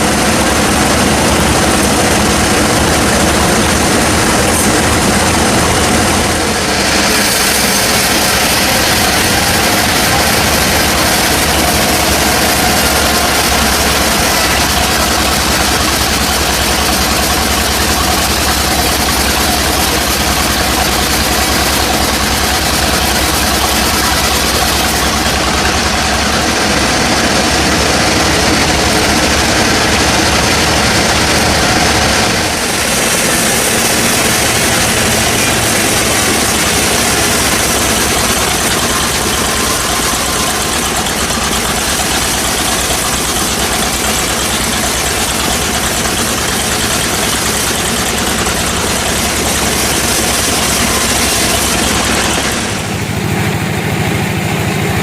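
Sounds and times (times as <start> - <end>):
heavy engine drone: 0.0 - 55.0
sawmill machinery running: 0.0 - 55.0.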